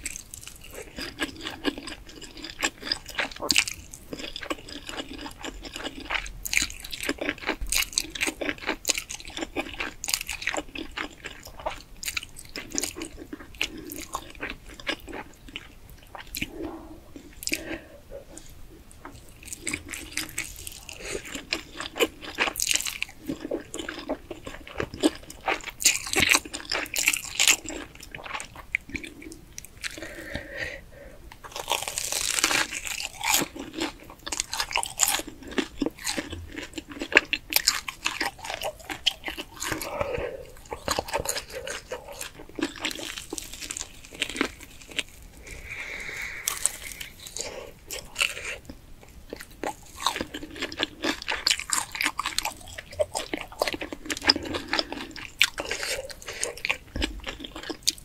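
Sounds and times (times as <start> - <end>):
crunching fried crust: 0.0 - 16.5, 19.0 - 29.1, 31.5 - 58.0.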